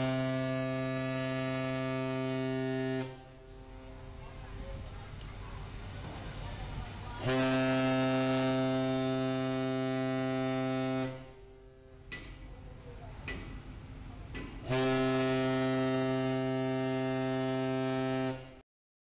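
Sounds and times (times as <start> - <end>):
ship's horn low blasts: 0.0 - 12.8, 13.4 - 18.6.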